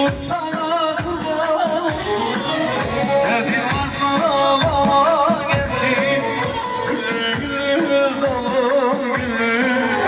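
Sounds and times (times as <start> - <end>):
drum beat: 0.0 - 10.0
live band wavering melody: 0.0 - 10.0
person singing: 0.0 - 10.0.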